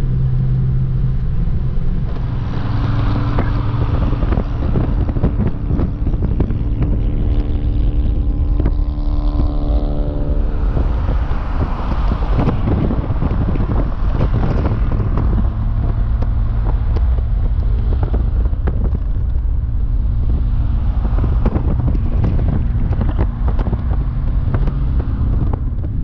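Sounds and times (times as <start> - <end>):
car cruising drone: 0.0 - 26.0
wind buffeting microphone: 0.0 - 26.0.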